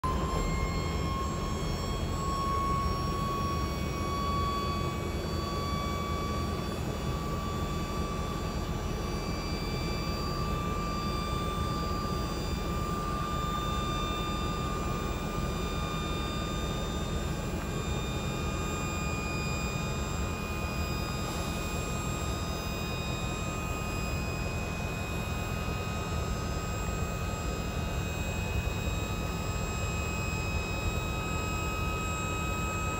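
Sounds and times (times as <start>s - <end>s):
hydraulic pump whining: 0.0s - 26.6s.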